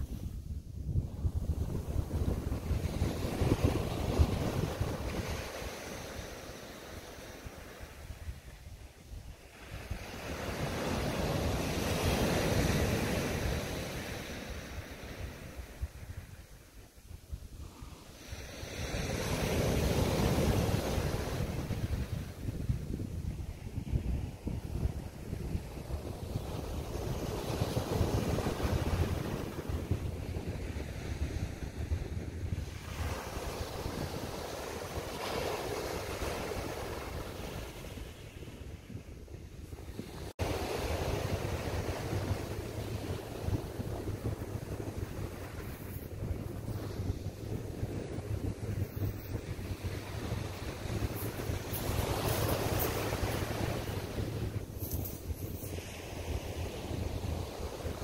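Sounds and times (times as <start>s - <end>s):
wind rumble on microphone: 0.0s - 58.0s
sea waves breaking on beach: 1.2s - 8.6s, 9.3s - 16.3s, 17.6s - 22.5s, 26.2s - 38.9s, 39.8s - 58.0s.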